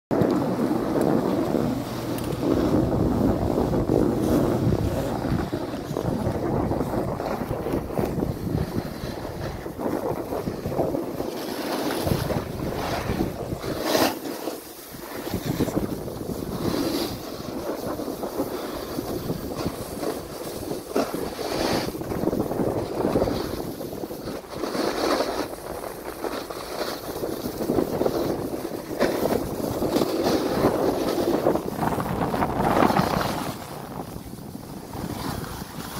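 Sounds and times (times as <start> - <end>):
wind buffeting microphone: 0.1 - 13.9, 14.8 - 35.9
sliding on packed snow: 0.1 - 35.9
sharp scrapes on snow: 1.0 - 35.9.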